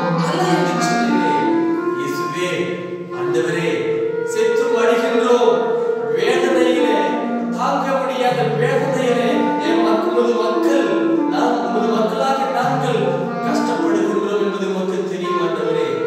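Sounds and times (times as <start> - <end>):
clarinet playing: 0.0 - 16.0.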